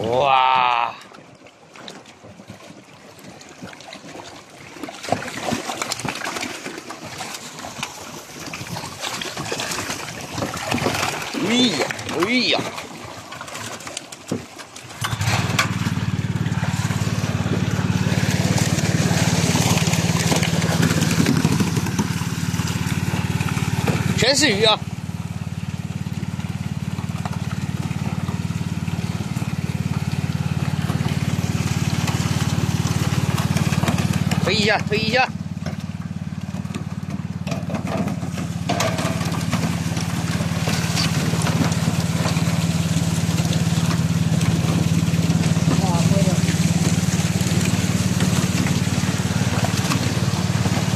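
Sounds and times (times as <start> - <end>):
fish splashing in water: 0.0 - 50.9
small engine chugging: 4.7 - 50.9.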